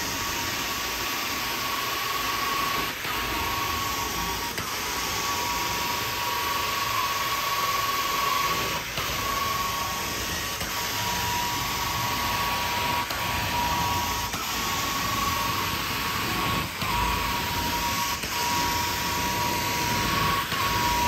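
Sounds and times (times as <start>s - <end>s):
vacuum cleaner on carpet: 0.0s - 21.0s.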